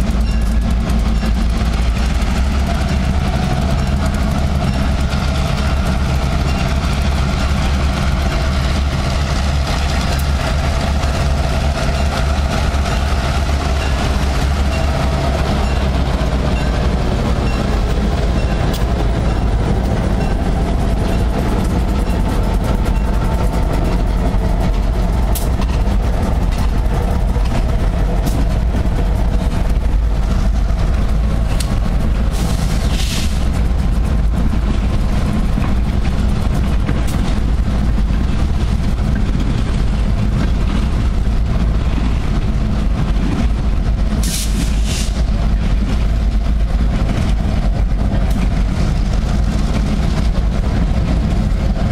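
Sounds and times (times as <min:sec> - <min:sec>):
diesel locomotives droning: 0:00.0 - 0:51.9.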